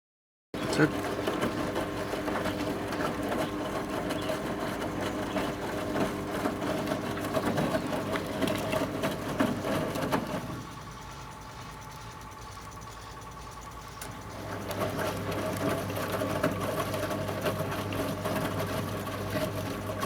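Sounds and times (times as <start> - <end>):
washing machine motor hum: 0.6 - 20.0.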